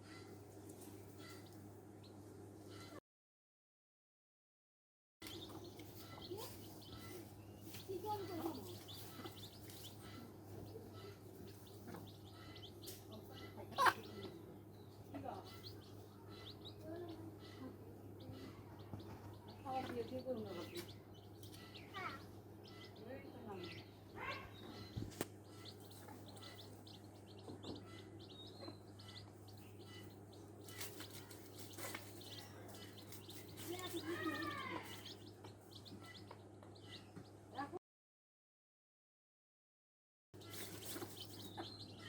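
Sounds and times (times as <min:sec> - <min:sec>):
chicks peeping: 0:00.0 - 0:03.0, 0:05.2 - 0:37.8, 0:40.4 - 0:42.0.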